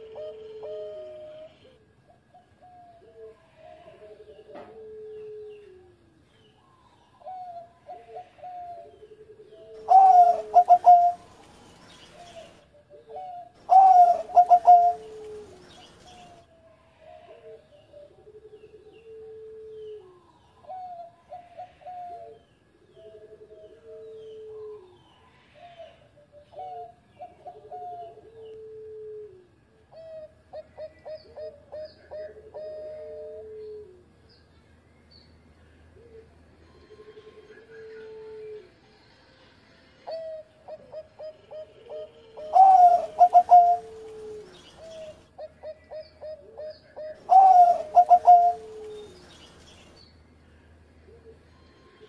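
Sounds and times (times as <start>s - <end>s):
dove cooing: 0.0s - 6.1s, 7.1s - 16.4s, 17.1s - 34.1s, 36.0s - 38.8s, 40.1s - 50.0s.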